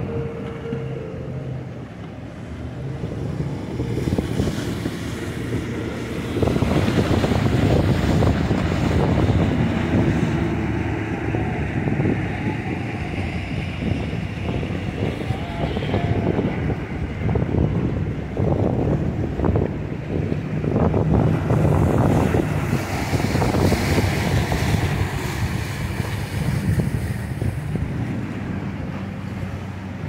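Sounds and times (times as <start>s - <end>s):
rush of surf: 0.0s - 30.0s
wind buffeting microphone: 0.0s - 30.0s.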